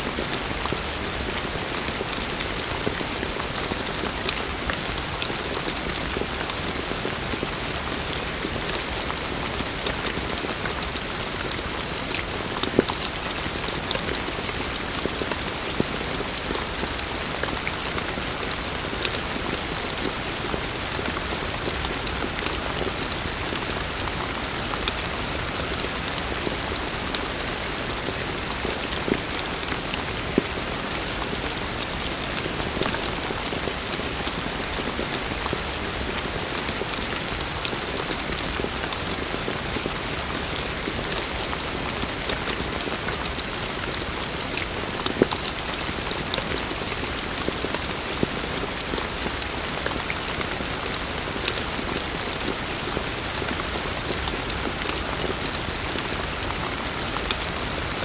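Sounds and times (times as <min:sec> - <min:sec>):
heavy rain: 0:00.0 - 0:58.0
rain drops hitting: 0:00.0 - 0:58.0.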